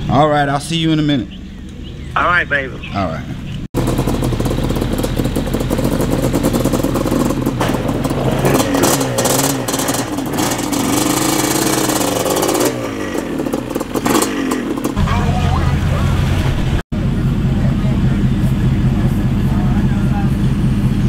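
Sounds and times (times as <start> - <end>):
quad engine revving: 3.8 - 21.0.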